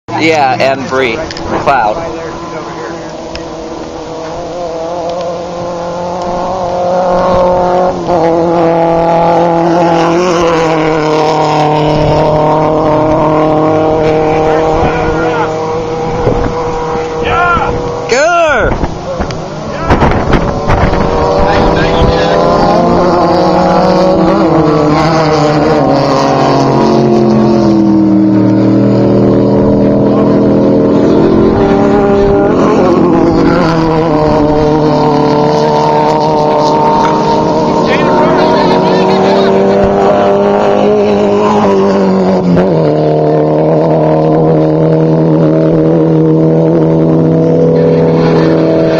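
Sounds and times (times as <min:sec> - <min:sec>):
race buggy engines passing: 0:00.1 - 0:48.9.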